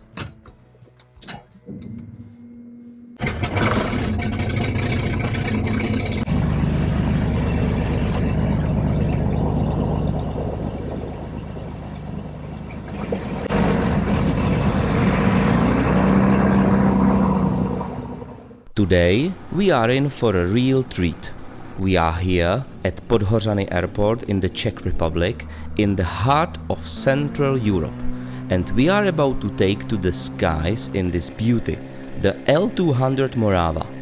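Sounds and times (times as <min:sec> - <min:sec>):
faint starter whine: 0:00.0 - 0:34.0
aircraft piston engines running: 0:03.4 - 0:34.0.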